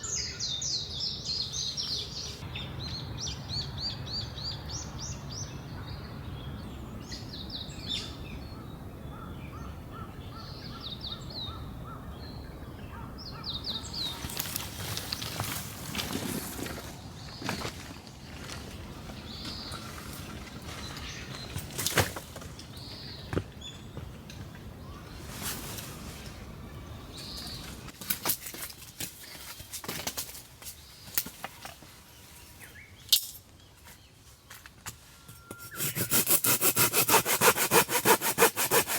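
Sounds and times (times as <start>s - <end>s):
faint outdoor background: 0.0s - 38.9s.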